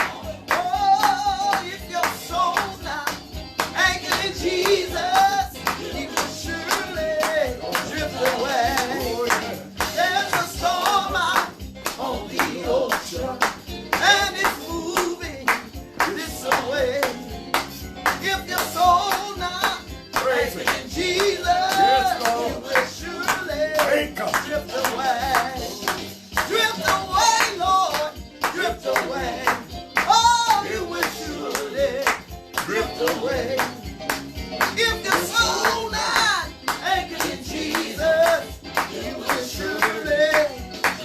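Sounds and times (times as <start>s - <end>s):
gospel singing with instruments: 0.0s - 41.0s
hand clapping on the beat: 0.0s - 41.0s.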